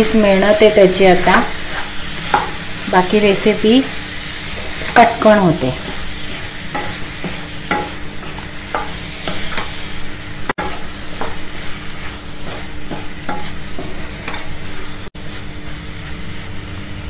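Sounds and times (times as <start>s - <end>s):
spatula scraping frying pan: 0.0s - 16.6s
food sizzling: 0.0s - 17.0s.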